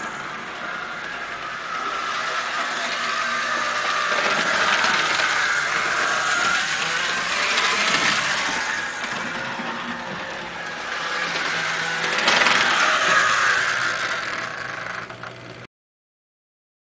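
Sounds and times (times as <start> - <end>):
model locomotive motor whine: 0.0 - 15.7.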